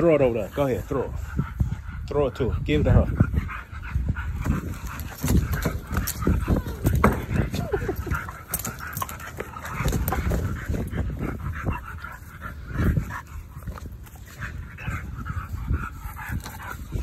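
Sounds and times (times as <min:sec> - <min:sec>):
dogs playing: 0:00.0 - 0:17.0.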